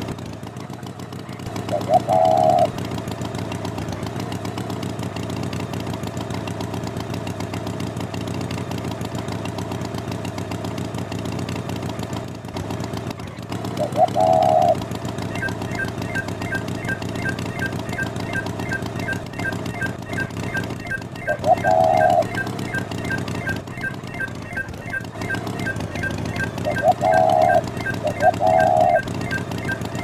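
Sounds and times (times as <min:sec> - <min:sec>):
cartoon tractor engine idling: 0:00.0 - 0:30.0.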